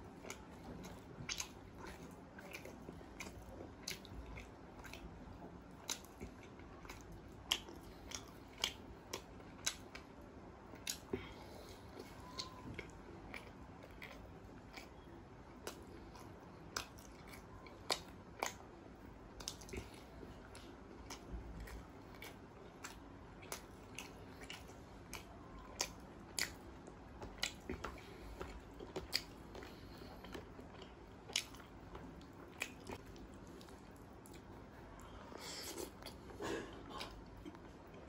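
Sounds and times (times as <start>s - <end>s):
chewing with wet mouth clicks: 0.0s - 38.0s.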